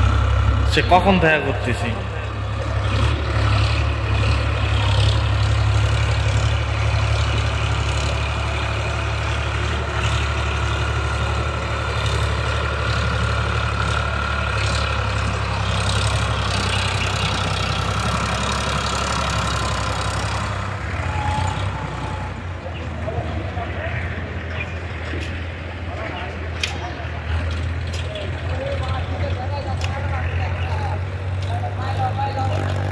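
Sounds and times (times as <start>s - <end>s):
tractor diesel engine under load: 0.0s - 32.9s.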